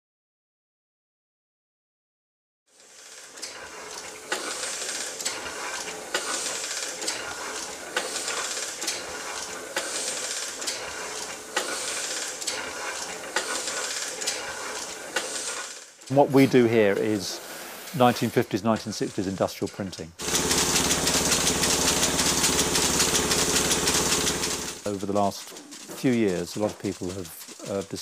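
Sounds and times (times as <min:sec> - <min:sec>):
printing press clattering: 0:03.0 - 0:17.3, 0:17.9 - 0:28.0.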